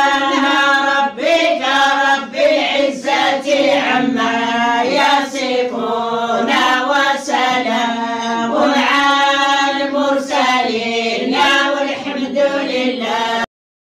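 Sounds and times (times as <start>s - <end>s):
voices chanting a prayer: 0.0s - 13.5s.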